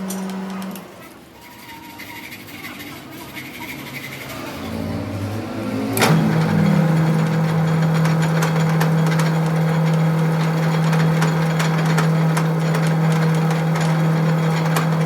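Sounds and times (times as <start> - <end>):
machine motor humming: 0.0 - 1.6, 3.4 - 15.0.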